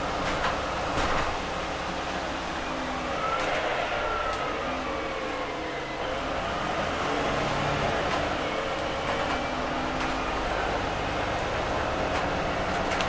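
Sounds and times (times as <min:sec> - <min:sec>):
bus engine drone with whine: 0:00.0 - 0:13.0.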